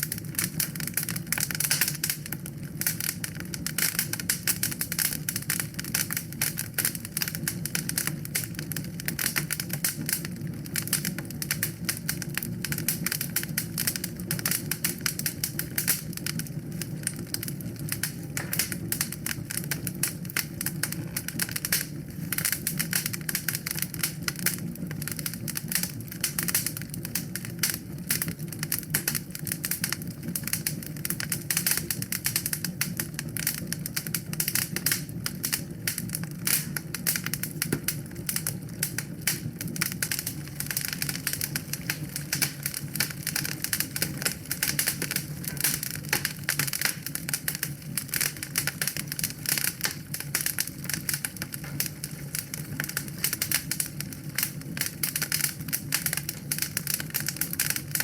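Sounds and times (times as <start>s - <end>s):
fire burning: 0.0s - 58.0s
wood fire pops and snaps: 0.0s - 58.0s.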